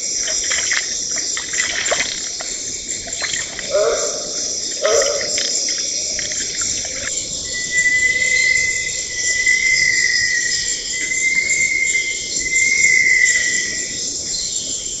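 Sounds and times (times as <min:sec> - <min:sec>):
insect chorus: 0:00.0 - 0:15.0
insect high wavering tone: 0:02.6 - 0:15.0.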